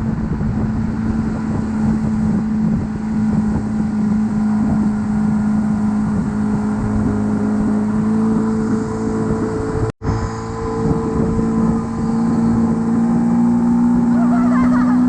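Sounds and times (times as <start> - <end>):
motorboat engine running: 0.0 - 15.0
rushing wind and water: 0.0 - 15.0.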